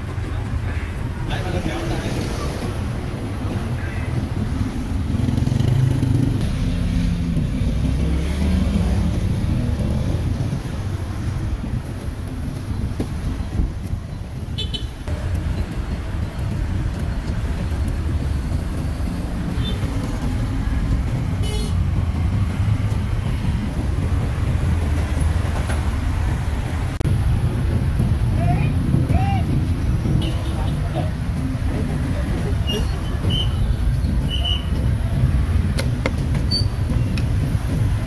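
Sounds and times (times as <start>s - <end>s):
traffic engine rumble: 0.0s - 38.0s.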